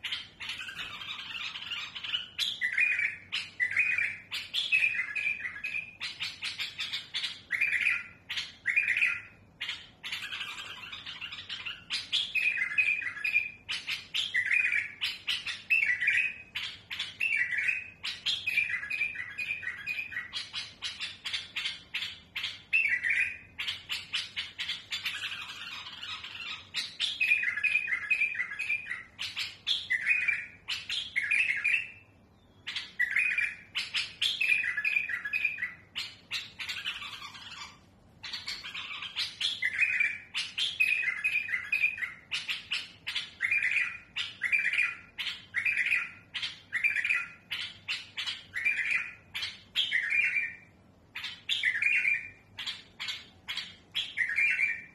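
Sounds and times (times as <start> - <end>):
bulbul singing: 0.0 - 54.9.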